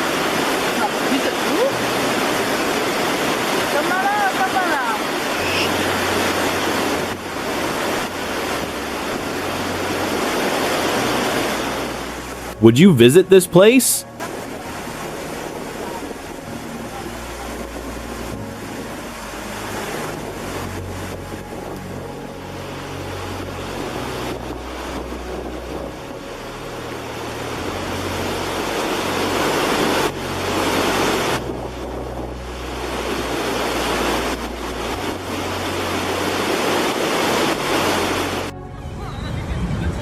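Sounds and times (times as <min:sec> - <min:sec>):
heavy rushing water: 0:00.0 - 0:38.6.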